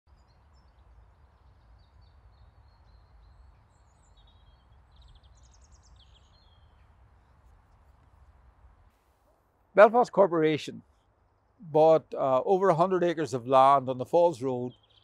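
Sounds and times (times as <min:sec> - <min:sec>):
small birds singing: 0:00.1 - 0:08.3, 0:10.8 - 0:15.0.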